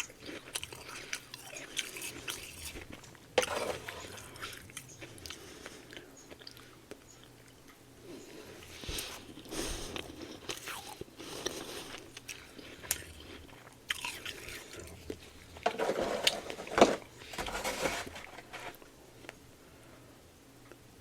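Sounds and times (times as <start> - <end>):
crunching and chewing frost: 0.0 - 19.4.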